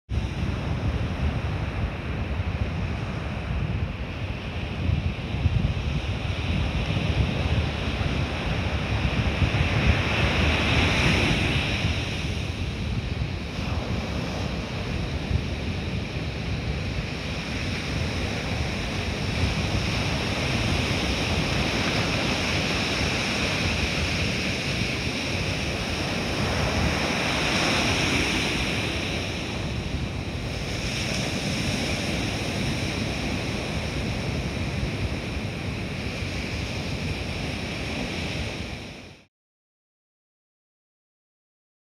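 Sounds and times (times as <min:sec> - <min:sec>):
wind rumbling on microphone: 0:00.1 - 0:39.3
ocean surf breaking: 0:00.2 - 0:39.3.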